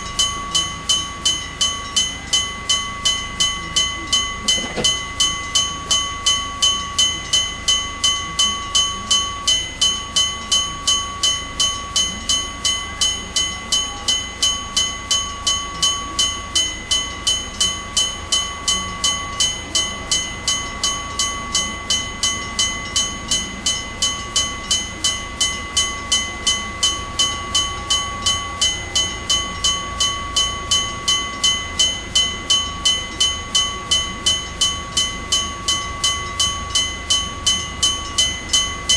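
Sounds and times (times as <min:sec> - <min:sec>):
level crossing bell ringing: 0:00.0 - 0:38.9.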